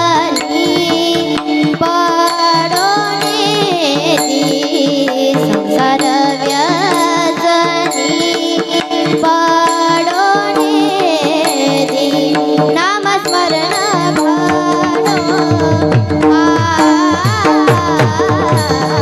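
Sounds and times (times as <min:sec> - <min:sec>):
girls singing ornamented melody: 0:00.0 - 0:19.0.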